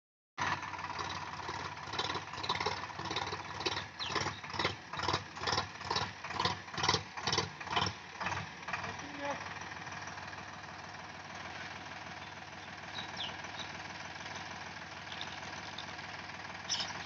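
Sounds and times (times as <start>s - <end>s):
tractor diesel engine running: 0.4s - 17.0s.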